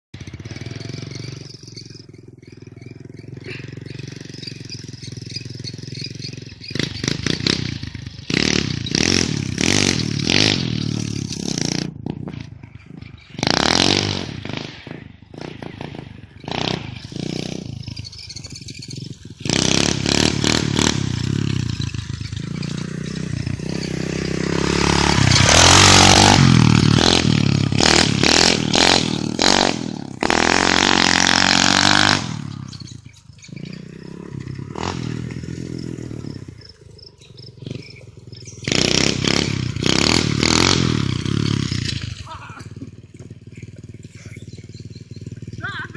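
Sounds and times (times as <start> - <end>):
pit bike engine revving: 0.2 - 45.9.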